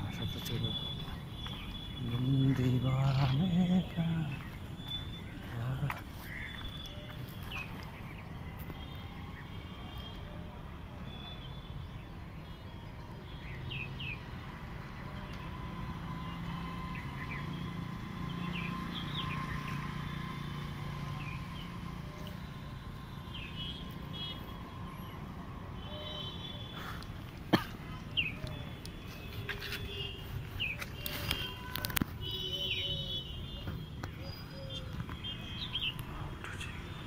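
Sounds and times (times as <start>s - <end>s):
birds chirping: 0.0s - 10.4s, 15.2s - 37.0s
road traffic rumble: 0.0s - 37.0s.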